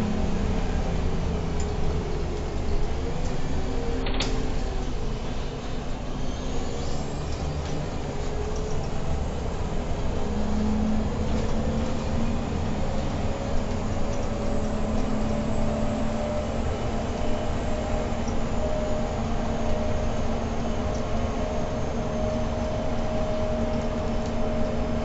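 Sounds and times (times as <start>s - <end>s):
bus engine and road noise: 0.0s - 25.0s.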